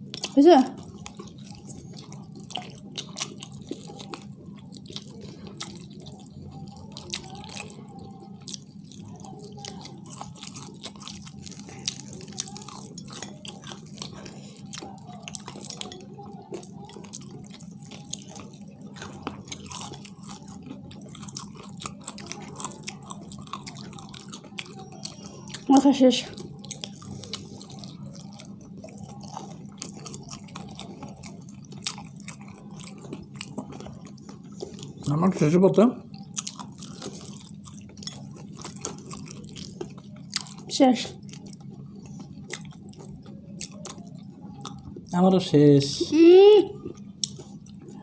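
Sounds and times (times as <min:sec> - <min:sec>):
chewing fried chicken: 0:00.0 - 0:48.0
steady low hum: 0:00.0 - 0:48.0.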